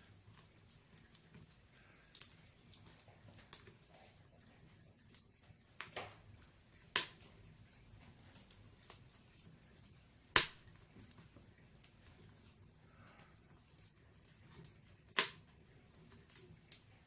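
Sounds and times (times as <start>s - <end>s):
crackling logs popping: 0.0s - 17.0s
low hiss of flames: 0.0s - 17.0s.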